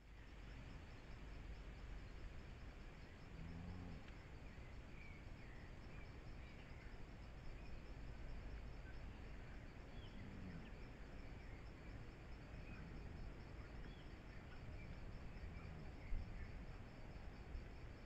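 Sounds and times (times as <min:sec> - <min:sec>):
insects trilling: 0:00.1 - 0:18.0
faint bird chirps: 0:03.0 - 0:17.7.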